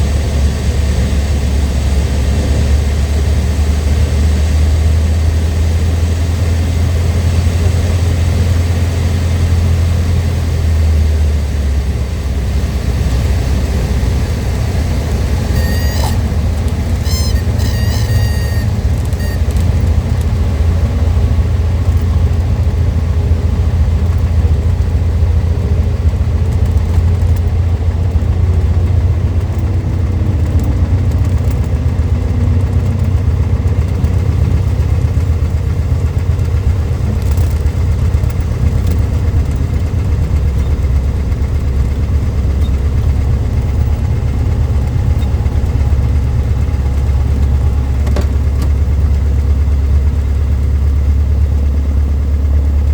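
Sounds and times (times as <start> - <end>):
small plane engine droning: 0.0 - 52.9.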